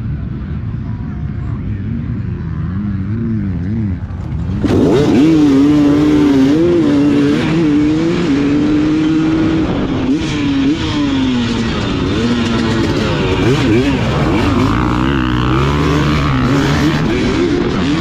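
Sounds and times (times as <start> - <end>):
dirt bike engine revving: 2.5 - 18.0.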